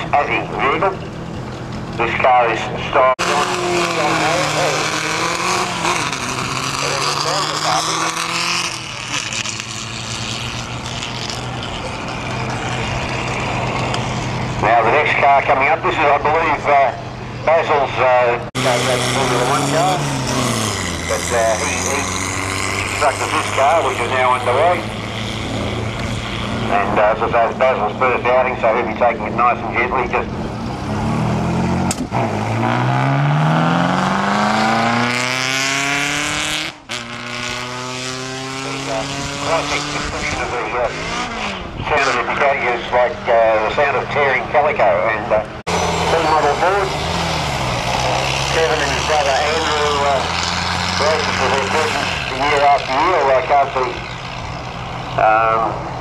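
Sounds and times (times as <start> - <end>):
racing car engine: 0.0 - 56.0
road and wind noise: 0.0 - 56.0.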